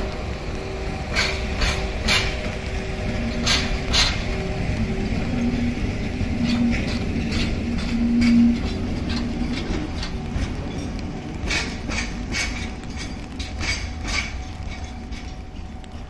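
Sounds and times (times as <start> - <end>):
locomotive engine rumble: 0.0 - 16.0
rain tapping on an umbrella: 0.0 - 16.0.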